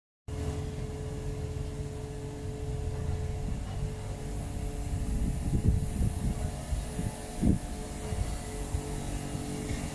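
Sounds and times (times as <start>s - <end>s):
constant humming tone: 0.3s - 9.9s
engine rumbling: 0.3s - 9.9s.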